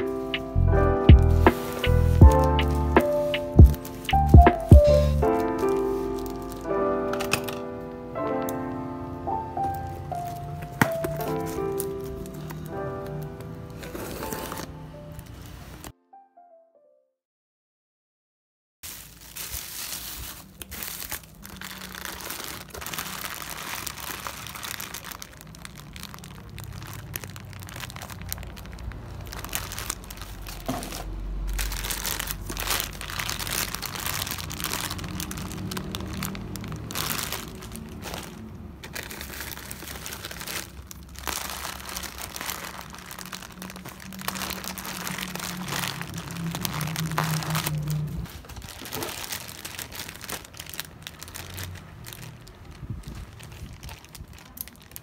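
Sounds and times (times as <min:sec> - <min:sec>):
bubble wrap and plastic bags crinkling: 0:00.0 - 0:07.8, 0:09.6 - 0:15.9, 0:18.8 - 0:55.0.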